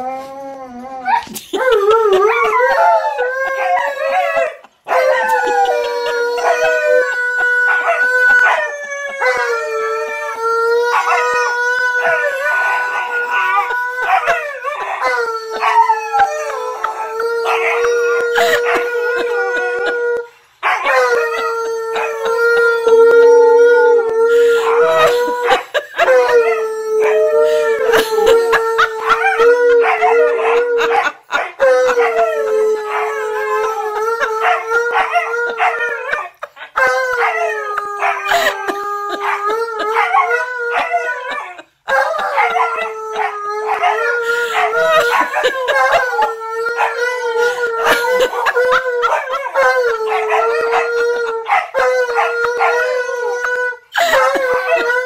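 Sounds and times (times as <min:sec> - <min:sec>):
dogs howling: 0:00.0 - 0:55.0.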